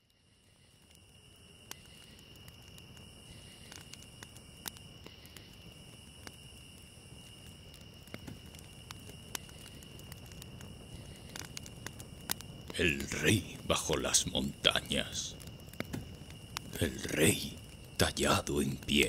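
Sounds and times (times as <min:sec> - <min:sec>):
crickets chirring: 0:00.0 - 0:19.0
fire crackling and popping: 0:00.0 - 0:19.0.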